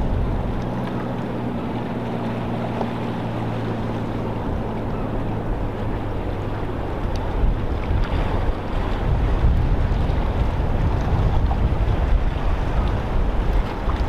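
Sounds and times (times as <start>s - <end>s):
boat engine hum: 0.0s - 14.0s
water wash: 0.0s - 14.0s
wind buffeting microphone: 0.0s - 14.0s.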